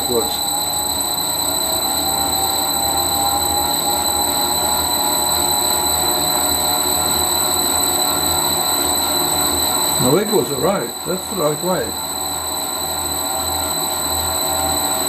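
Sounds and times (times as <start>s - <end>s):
lathe motor running: 0.0s - 15.0s.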